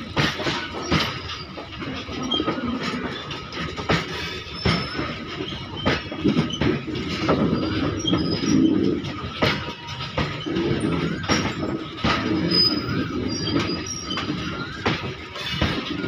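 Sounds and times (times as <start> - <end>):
train wheels rumbling on rail: 0.0 - 16.0
wheel squeal: 0.0 - 16.0
wheels knocking on rail joints: 0.0 - 16.0.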